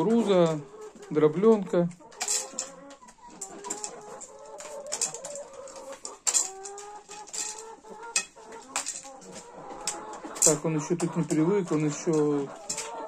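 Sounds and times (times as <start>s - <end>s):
hens clucking: 0.0s - 13.0s
beaks pecking: 0.1s - 13.0s.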